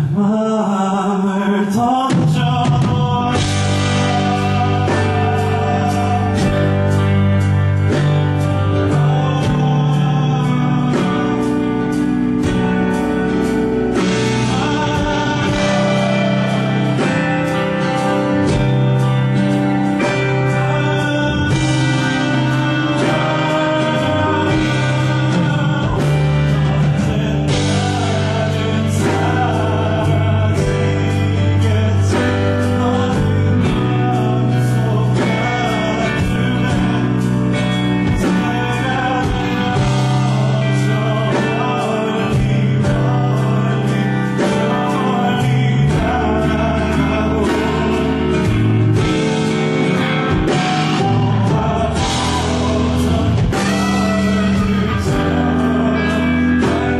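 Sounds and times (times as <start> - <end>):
live pop-rock band playing: 0.0 - 56.9
person singing: 0.0 - 56.9.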